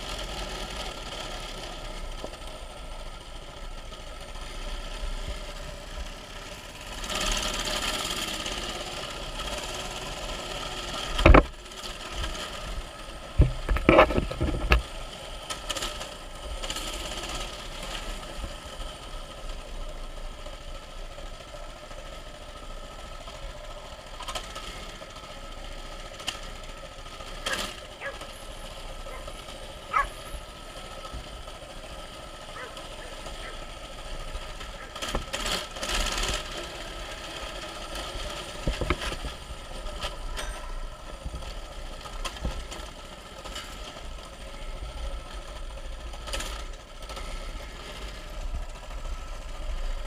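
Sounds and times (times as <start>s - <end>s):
mini bike engine running: 0.0s - 50.0s.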